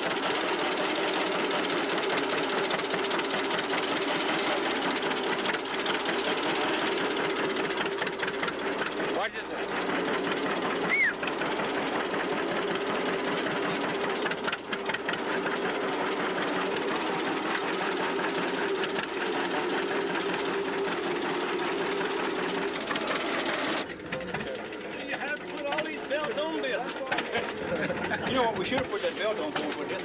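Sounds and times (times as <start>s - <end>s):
threshing machine clatter: 0.0s - 30.0s
tractor engine hum: 0.0s - 30.0s.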